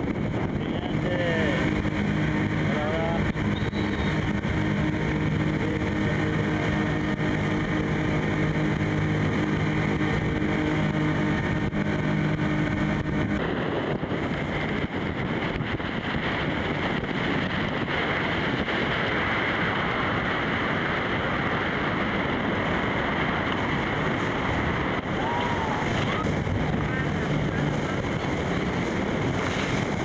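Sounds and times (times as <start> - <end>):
held steady tones: 0.0 - 30.0
rushing water roar: 0.0 - 30.0
wind buffeting microphone: 0.0 - 30.0.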